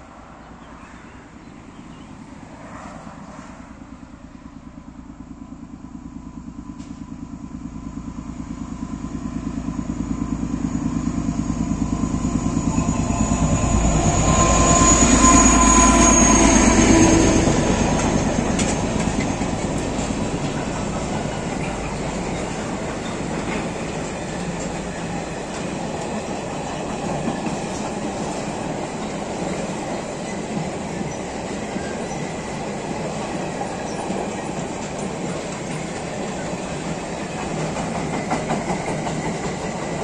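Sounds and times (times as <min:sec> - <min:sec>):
diesel locomotive engine: 0:00.0 - 0:40.0
high ring of wheels on rail: 0:00.0 - 0:40.0.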